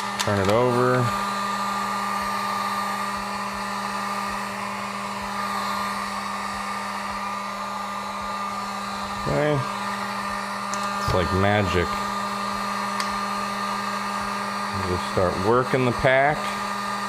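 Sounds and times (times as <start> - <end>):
heat gun blowing air: 0.0 - 17.0.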